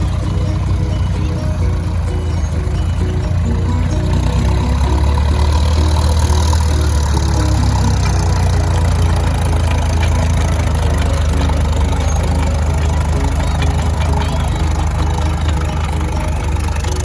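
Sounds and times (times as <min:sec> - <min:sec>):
faint music: 0:00.0 - 0:17.0
tractor engine idling: 0:00.0 - 0:17.0.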